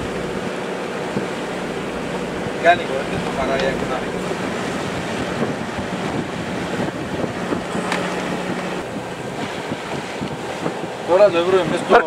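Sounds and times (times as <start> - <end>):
water splashing along a hull: 0.0 - 12.0
wind buffeting microphone: 0.0 - 12.0.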